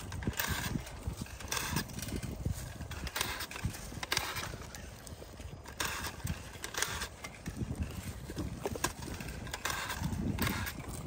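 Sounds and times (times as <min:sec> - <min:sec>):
handling noise: 0:00.0 - 0:11.0.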